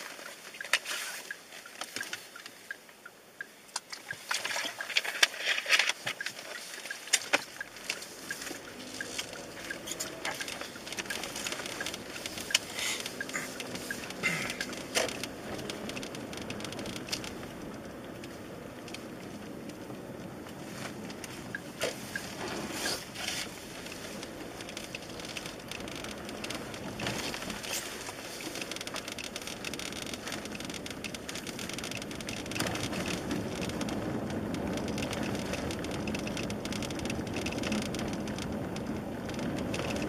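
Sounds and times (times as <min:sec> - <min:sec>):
car cabin road noise: 0:00.0 - 0:40.0
dashboard panel creaks and clicks: 0:04.9 - 0:19.1, 0:20.9 - 0:40.0.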